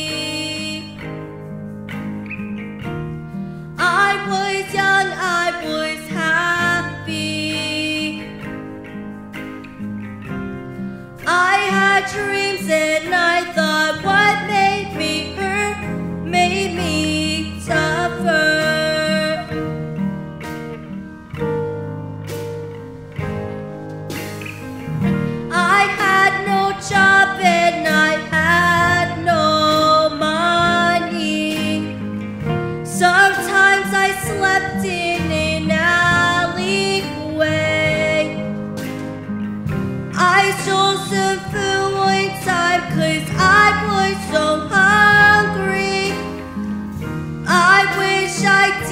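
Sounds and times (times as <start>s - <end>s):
instrumental accompaniment: 0.0s - 48.9s
strummed acoustic guitar: 0.0s - 48.9s.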